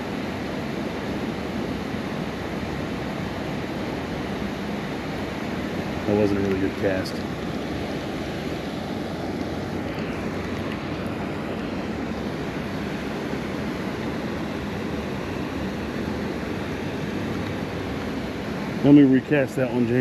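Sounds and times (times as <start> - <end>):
water rushing over spillway: 0.0 - 20.0.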